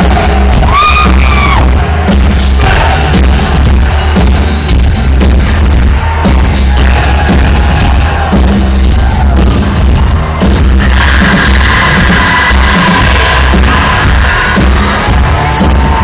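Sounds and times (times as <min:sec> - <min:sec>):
live band through pa: 0:00.0 - 0:16.0.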